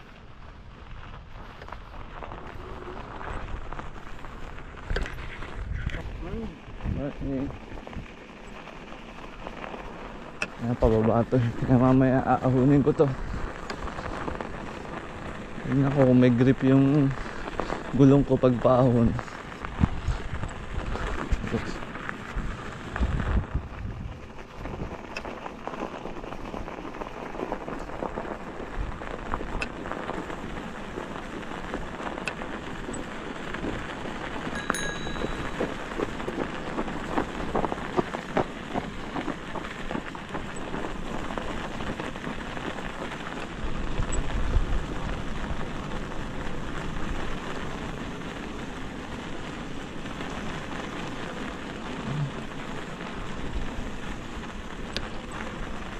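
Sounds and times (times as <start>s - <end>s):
wind gusts on microphone: 0.0s - 8.7s, 10.6s - 55.9s
bike tyres crackling on trail: 0.0s - 55.9s.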